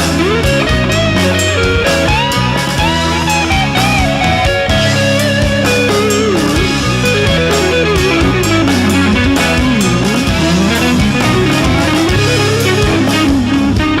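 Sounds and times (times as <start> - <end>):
bass notes: 0.0 - 14.0
bending lead electric guitar: 0.0 - 14.0.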